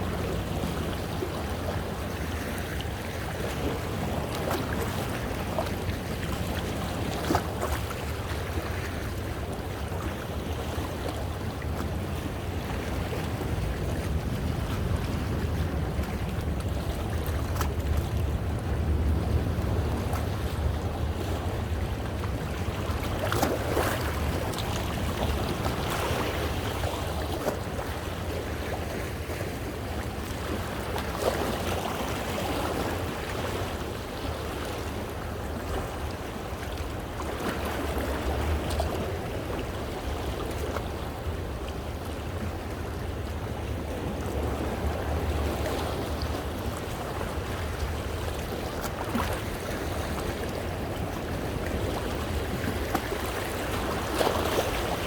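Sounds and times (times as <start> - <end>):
waves splashing against rocks: 0.0 - 55.0.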